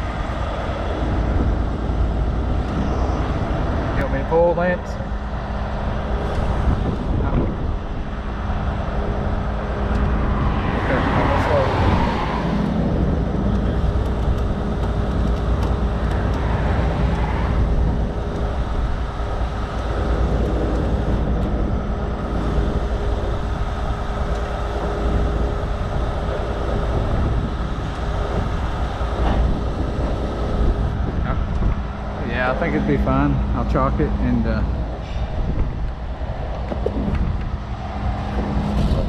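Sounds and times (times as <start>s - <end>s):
diesel truck engine rumbling: 0.0s - 39.0s.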